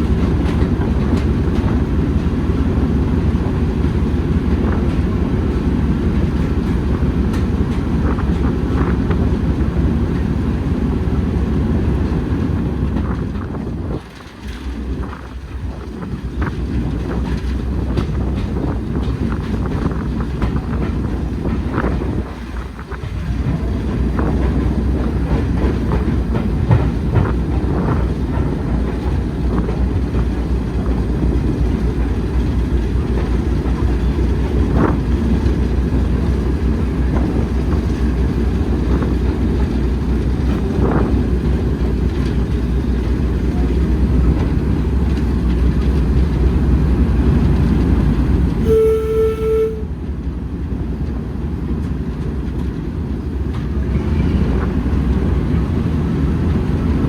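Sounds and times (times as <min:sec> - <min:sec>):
train rumbling on track: 0:00.0 - 0:57.0
wheels clicking over rails: 0:00.0 - 0:57.0.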